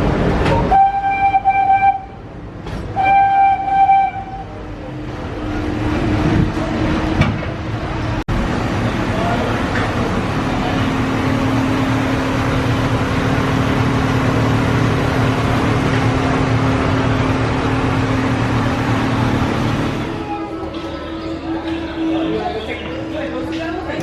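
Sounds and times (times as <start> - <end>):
vehicle running hum: 4.3 - 24.0.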